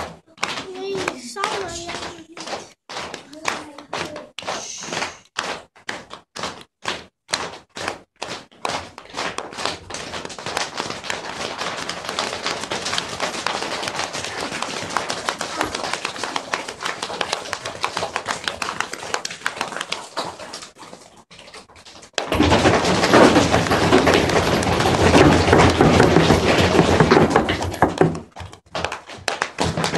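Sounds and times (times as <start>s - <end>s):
children tapping and clapping hands: 0.0s - 29.9s.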